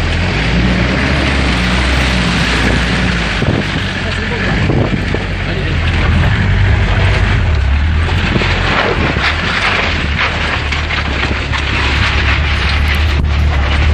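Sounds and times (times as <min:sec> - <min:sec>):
vehicle engine running at low speed: 0:00.0 - 0:13.9
water rushing: 0:00.0 - 0:13.9.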